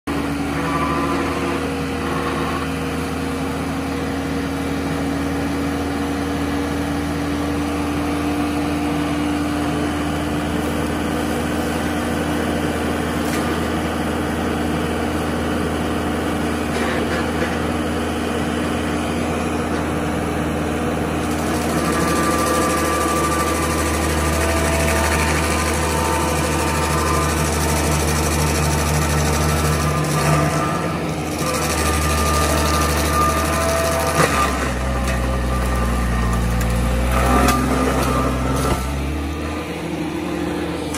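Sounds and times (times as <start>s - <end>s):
heavy equipment engine running: 0.1s - 40.9s.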